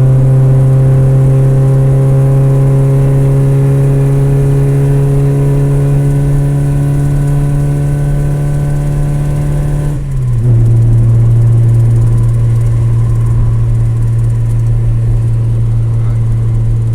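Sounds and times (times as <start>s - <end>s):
race car engine running: 0.0s - 16.9s.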